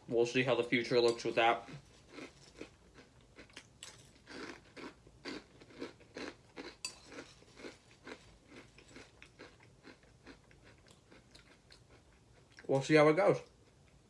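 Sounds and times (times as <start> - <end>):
person chewing crunchy cereal: 1.2 - 12.7.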